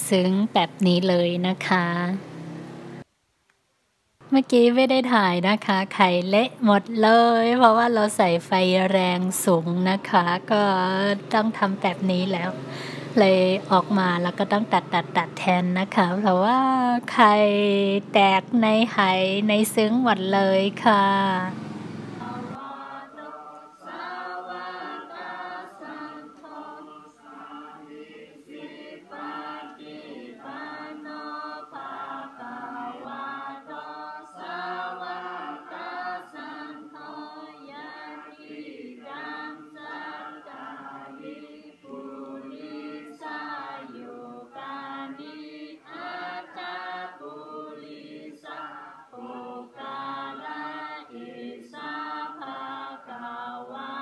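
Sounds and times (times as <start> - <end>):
group chanting prayers: 5.7 - 54.0.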